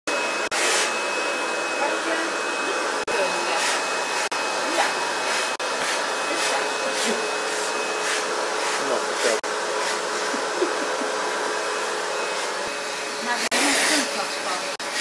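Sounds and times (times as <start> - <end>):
vacuum cleaner hiss and whine: 0.1 - 15.0.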